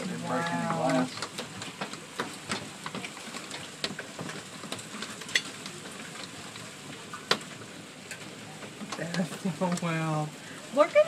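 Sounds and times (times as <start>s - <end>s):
hail hissing: 0.0s - 11.0s
hailstones cracking on hard surfaces: 0.0s - 11.0s.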